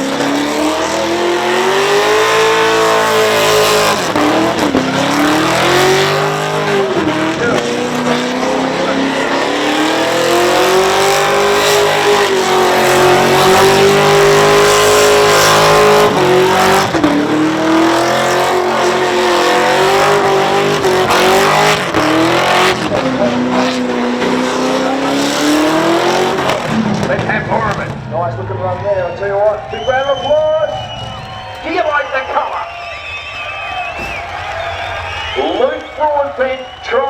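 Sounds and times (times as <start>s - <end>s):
engine revving high: 0.0s - 31.6s
spinning tyres screeching: 0.0s - 37.0s.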